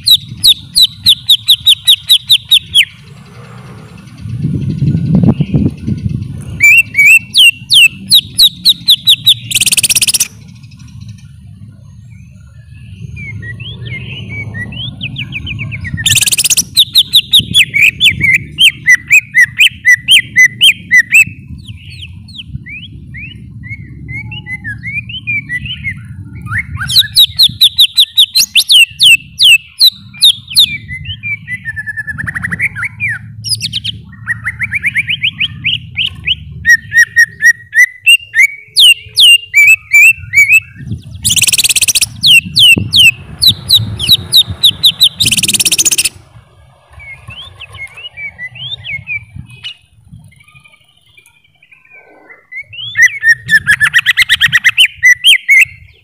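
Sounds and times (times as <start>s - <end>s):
bird whistling and trilling: 0.0s - 3.0s, 4.7s - 11.2s, 12.0s - 46.2s, 47.0s - 56.0s.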